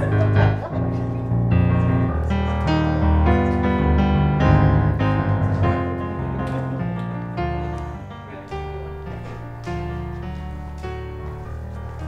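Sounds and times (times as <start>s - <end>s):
sustained low bass notes: 0.0s - 11.9s
keyboard melody: 0.0s - 12.0s.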